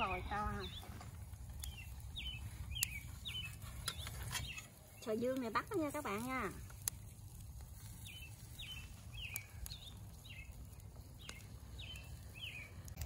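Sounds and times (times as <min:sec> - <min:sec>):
bird chirping: 0:00.0 - 0:06.5, 0:07.8 - 0:12.9
low outdoor rumble: 0:00.0 - 0:13.0.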